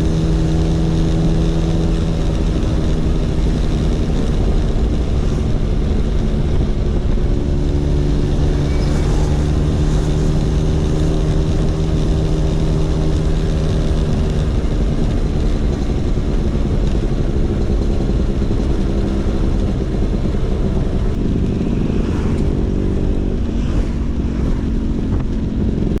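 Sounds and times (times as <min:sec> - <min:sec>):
scooter engine running: 0:00.0 - 0:26.0.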